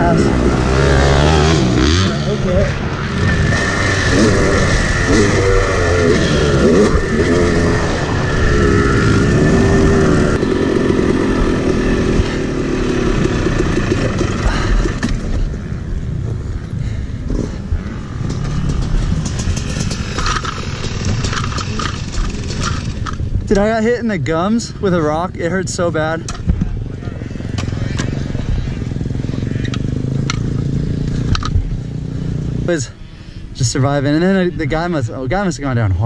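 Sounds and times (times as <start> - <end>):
two-stroke dirt bike engine: 0.0 - 23.6, 26.2 - 32.8.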